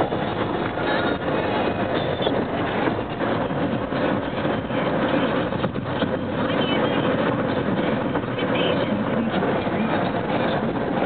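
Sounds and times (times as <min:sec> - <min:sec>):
air conditioning blowing: 0:00.0 - 0:11.0
road and engine noise: 0:00.0 - 0:11.0.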